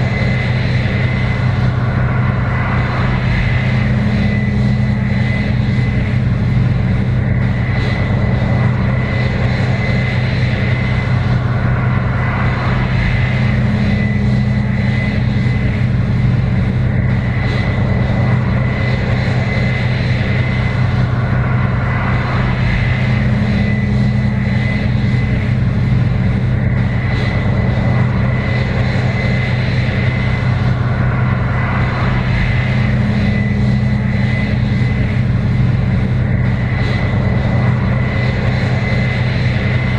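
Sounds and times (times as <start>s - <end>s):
deep hum: 0.0s - 39.9s
diesel engine drone: 0.0s - 39.9s
high machine whine: 0.0s - 39.9s.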